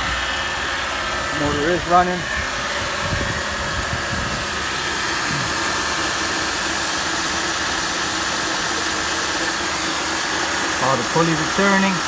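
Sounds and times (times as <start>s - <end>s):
car engine idling: 0.0s - 12.0s
faint accessory belt whine: 0.0s - 12.0s.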